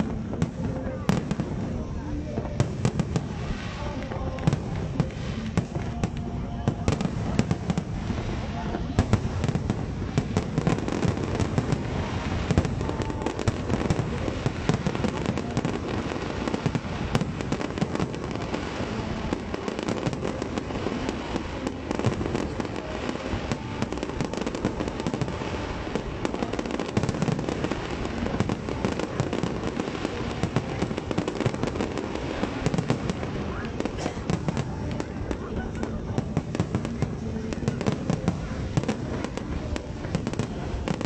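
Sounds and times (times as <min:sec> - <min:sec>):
firework cracks and crackling: 0:00.0 - 0:41.0.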